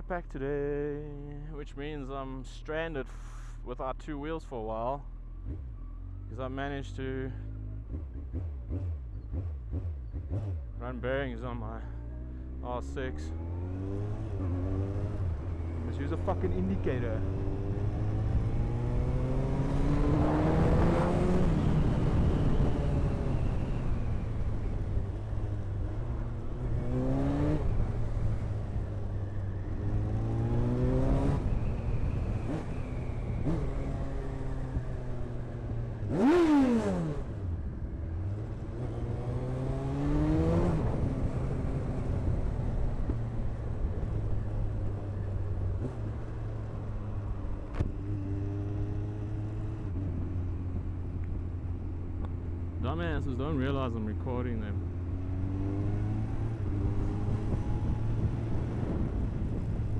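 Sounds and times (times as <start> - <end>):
motorcycle engine accelerating: 5.3 - 6.3, 7.3 - 59.9.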